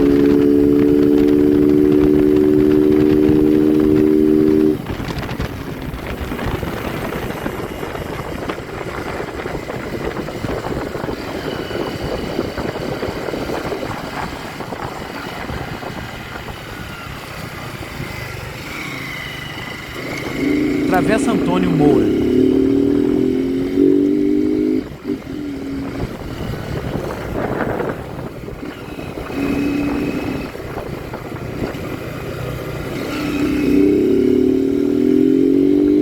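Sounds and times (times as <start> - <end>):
wind and road noise: 0.0 - 36.0.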